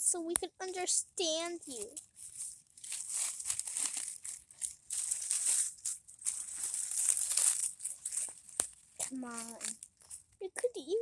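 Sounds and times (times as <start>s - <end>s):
crinkling and rustling: 1.4s - 10.4s.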